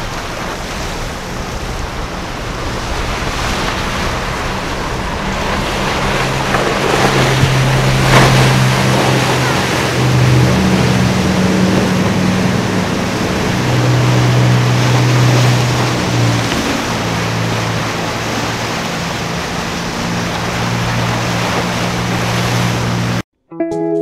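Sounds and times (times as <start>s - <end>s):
boat engines droning: 0.0s - 23.2s
water rushing against hull: 0.0s - 23.2s.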